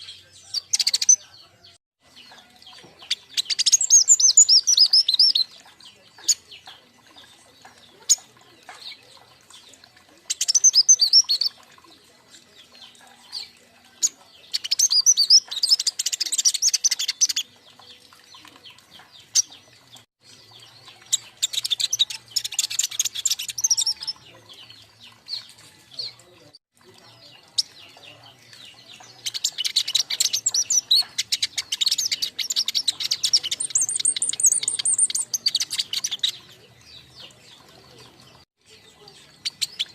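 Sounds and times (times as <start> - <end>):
birds twittering trills: 0.0 - 39.9.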